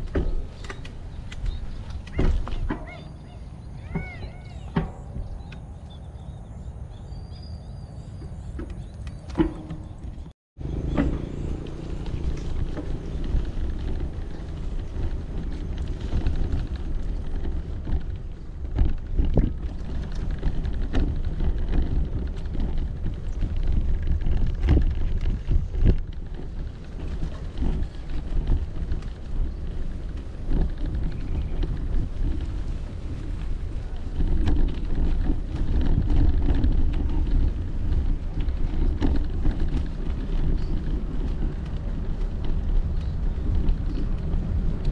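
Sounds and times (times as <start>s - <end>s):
bicycle knocks and rattles: 0.0s - 5.7s, 8.0s - 44.9s
bicycle tyre noise on dirt: 0.0s - 44.9s
wind on microphone: 0.0s - 44.9s.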